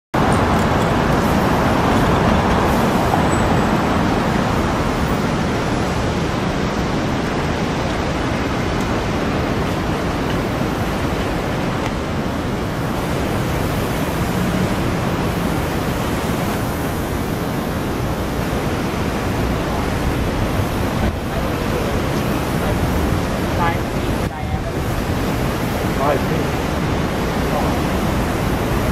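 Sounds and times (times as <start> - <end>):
city street traffic: 0.1 - 28.9.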